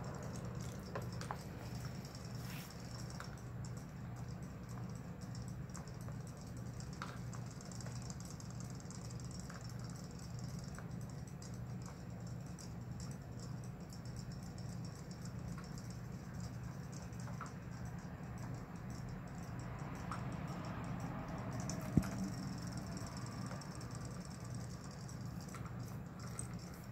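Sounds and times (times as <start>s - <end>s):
steady low hum: 0.0s - 26.9s
toy motors ticking and rattling: 0.0s - 26.9s.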